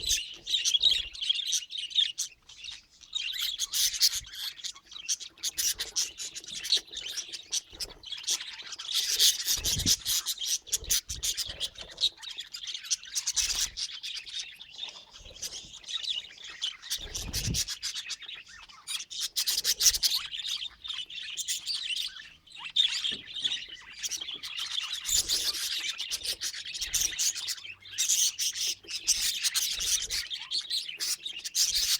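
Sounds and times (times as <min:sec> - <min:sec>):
budgerigars chattering and chirping: 0:00.0 - 0:31.9.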